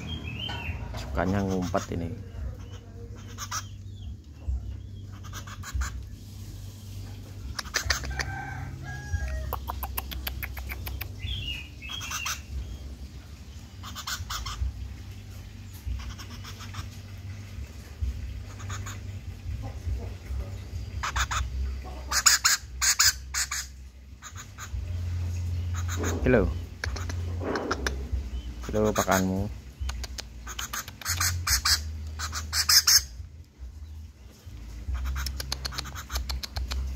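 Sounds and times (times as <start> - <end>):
bird chirps: 0.0 - 8.2, 9.3 - 17.0, 18.1 - 33.2, 33.8 - 36.9.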